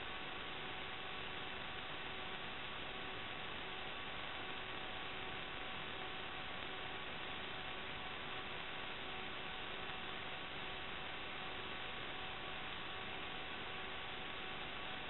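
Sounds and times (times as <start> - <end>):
faint constant hum: 0.0 - 15.0.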